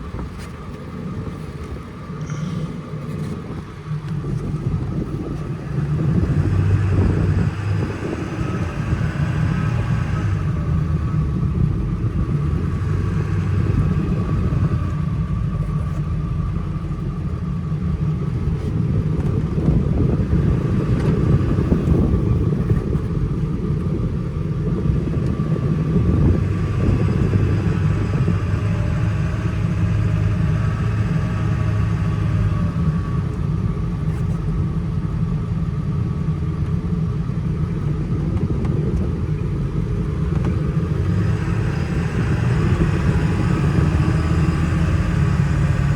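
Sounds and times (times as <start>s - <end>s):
diesel truck engine rumbling: 0.0s - 45.9s
road noise: 0.0s - 45.9s.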